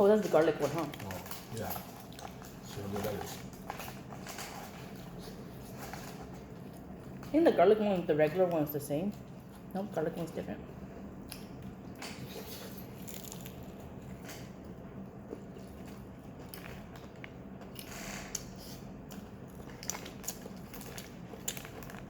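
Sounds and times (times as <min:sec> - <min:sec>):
chewing fried chicken: 0:00.1 - 0:10.0, 0:10.7 - 0:22.0.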